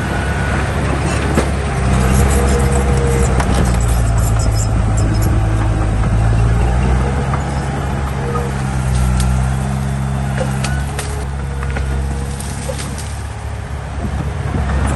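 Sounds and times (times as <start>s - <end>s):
diesel machine engine under load: 0.0s - 14.9s.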